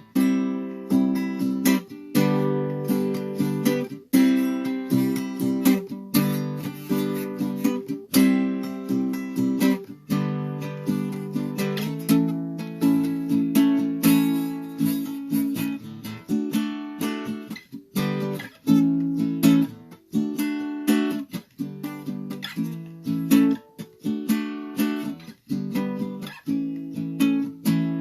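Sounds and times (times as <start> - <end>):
strummed guitar chords: 0.0 - 28.0.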